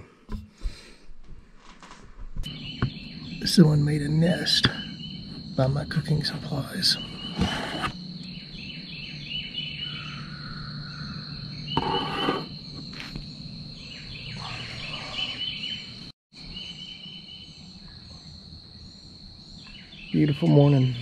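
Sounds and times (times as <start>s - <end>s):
bird chirps: 2.4s - 21.0s
insect drone: 2.5s - 21.0s.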